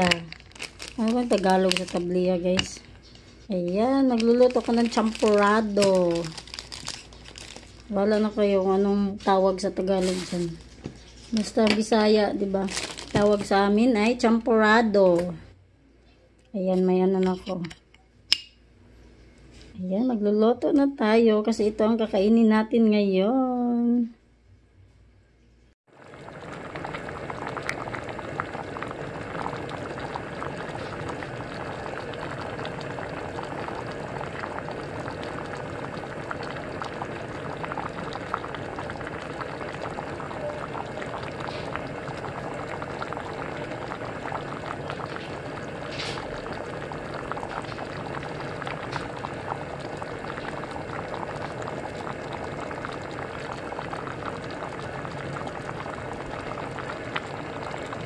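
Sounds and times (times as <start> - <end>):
porridge bubbling in a pot: 0.0 - 15.2, 25.9 - 58.0.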